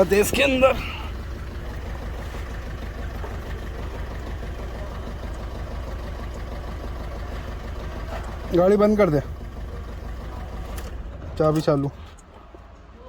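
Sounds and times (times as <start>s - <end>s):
diesel engine idling with misfire: 0.0s - 13.0s.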